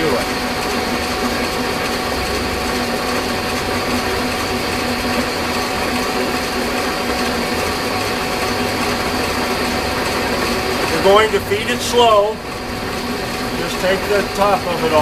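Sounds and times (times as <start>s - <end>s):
metal lathe whirring: 0.0s - 15.0s.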